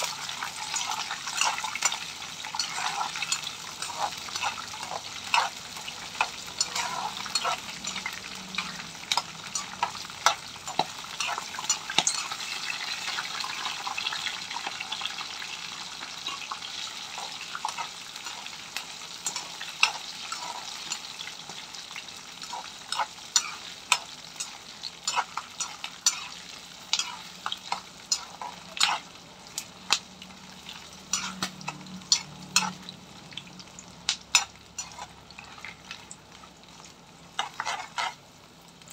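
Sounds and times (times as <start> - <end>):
metal spatula scraping a pan: 0.0 - 15.0, 16.0 - 29.2, 31.0 - 32.9, 34.3 - 36.5, 37.3 - 38.2
nuts sizzling in hot oil: 0.0 - 38.9.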